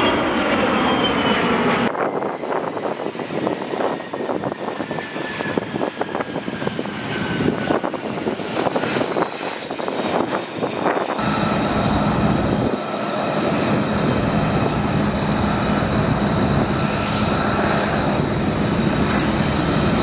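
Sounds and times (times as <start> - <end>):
jet engine crackling rumble: 0.0 - 20.0
jet engine whine with low hum: 0.0 - 20.0.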